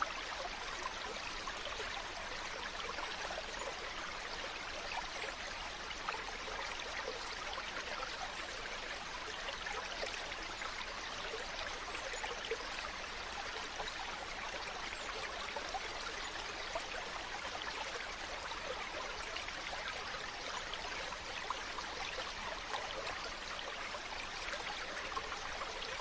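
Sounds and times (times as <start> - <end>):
stream flowing over rocks: 0.0 - 26.0.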